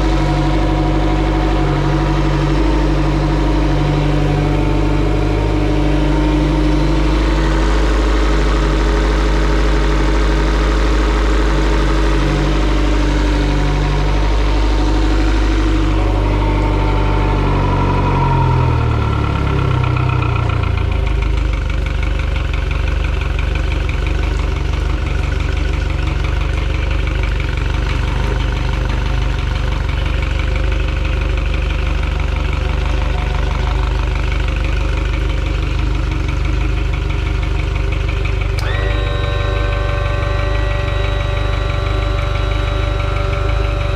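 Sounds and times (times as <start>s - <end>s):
outboard engine running: 0.0s - 43.9s.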